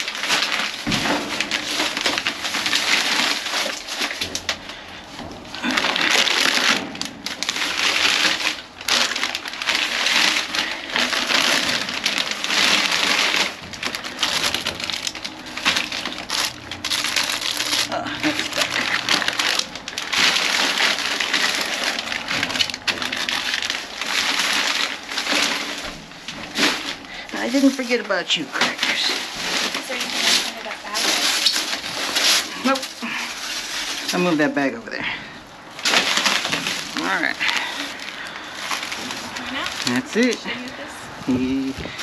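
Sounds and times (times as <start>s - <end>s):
plastic bags rustling and crinkling: 0.0s - 42.0s.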